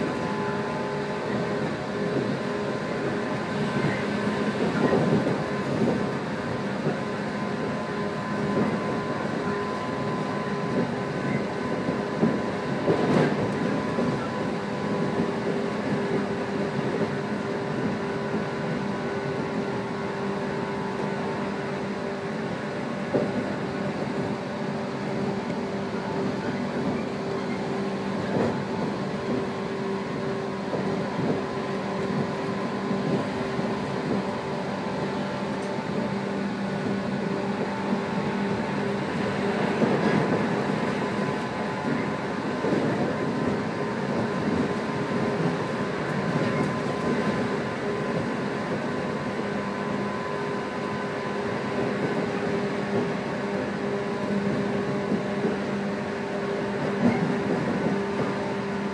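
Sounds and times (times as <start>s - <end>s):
train running on rails: 0.0s - 58.9s.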